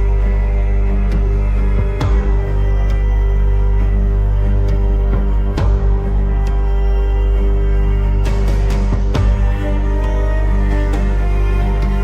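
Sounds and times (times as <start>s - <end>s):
dark ambient music: 0.0s - 12.0s.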